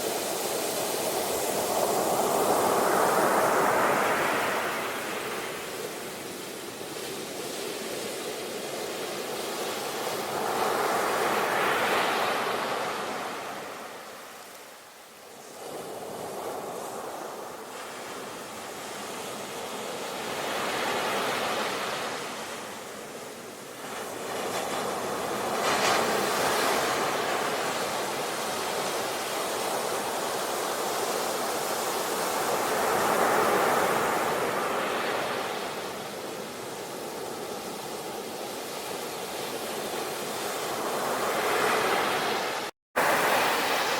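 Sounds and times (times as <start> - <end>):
ocean waves washing ashore: 0.0 - 43.9.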